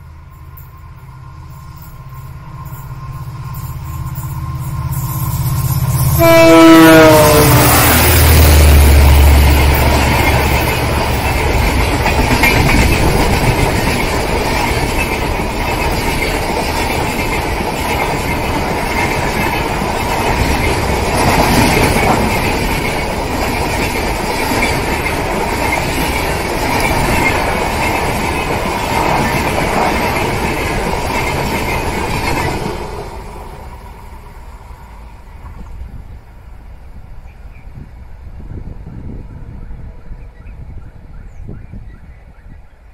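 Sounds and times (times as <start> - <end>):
train wheels clacking on rails: 0.0 - 35.9.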